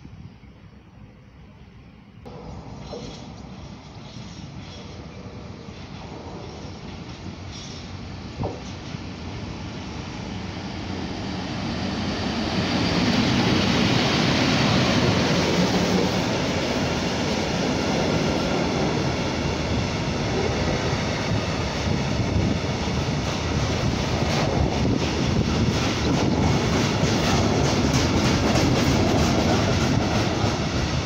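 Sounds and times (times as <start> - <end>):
electric locomotive passing: 0.7 - 31.0.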